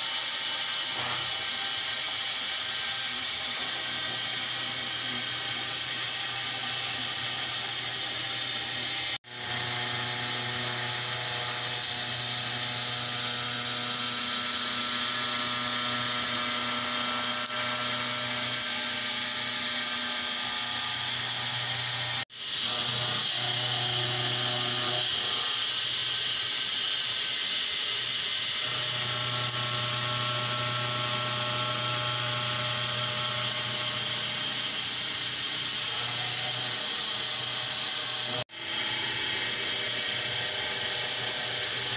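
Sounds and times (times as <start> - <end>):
milling machine cutting metal: 0.0 - 41.9.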